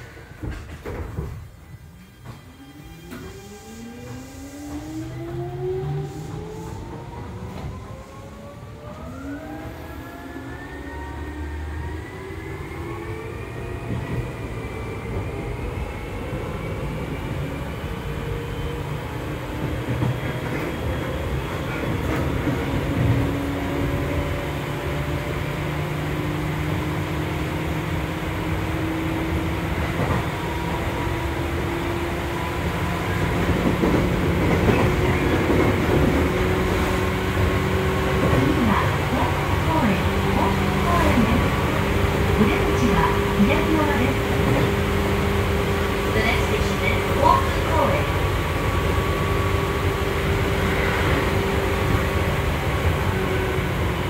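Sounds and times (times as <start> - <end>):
second train's rising tones: 0.0 - 54.0
train running noise: 0.0 - 54.0.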